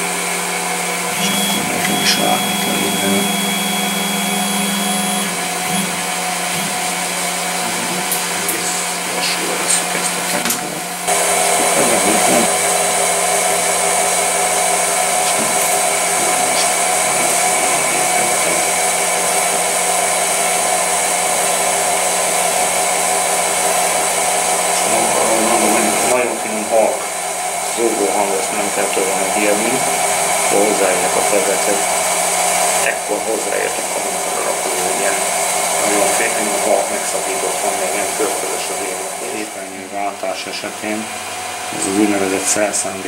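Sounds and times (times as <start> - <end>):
lathe spindle whirring: 0.0 - 43.0.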